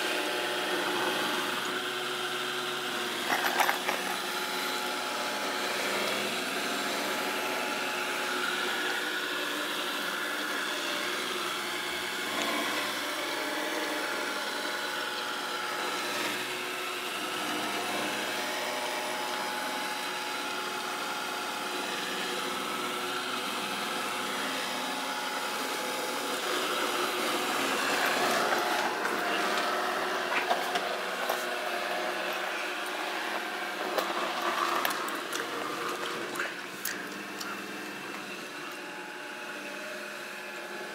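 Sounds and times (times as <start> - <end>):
robot vacuum cleaner humming: 0.0 - 40.9.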